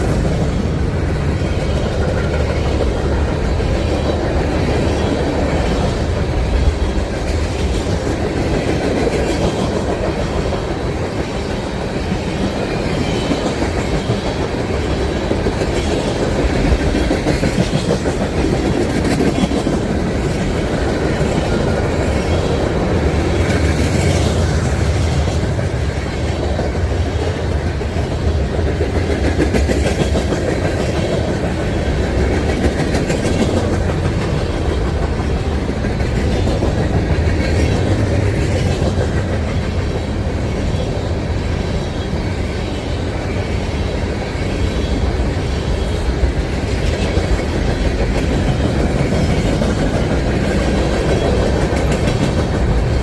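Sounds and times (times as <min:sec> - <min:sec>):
train wheels clacking over rail joints: 0:00.0 - 0:53.0.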